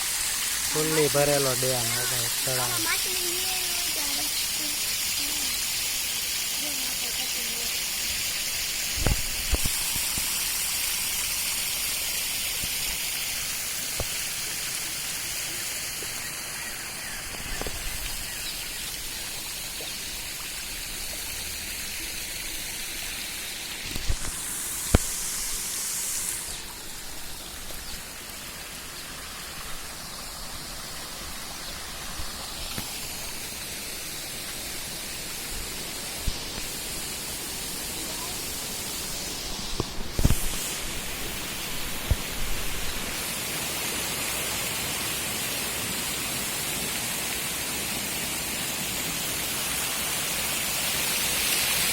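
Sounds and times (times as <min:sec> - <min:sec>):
river water rushing: 0:00.0 - 0:51.9.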